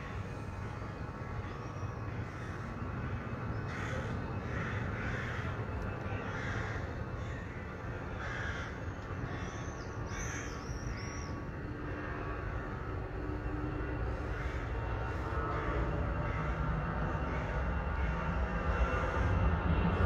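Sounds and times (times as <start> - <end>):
crows cawing: 0.0 - 19.4
low outdoor rumble: 0.0 - 20.0.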